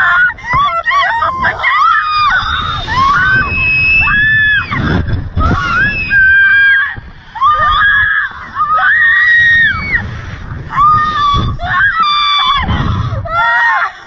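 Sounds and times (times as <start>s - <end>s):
women screaming: 0.0s - 10.1s, 10.7s - 14.0s.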